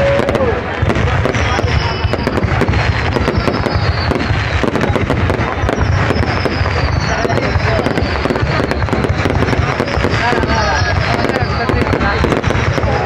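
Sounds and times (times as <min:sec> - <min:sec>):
rapid crackle of sharp pops: 0:00.0 - 0:13.0.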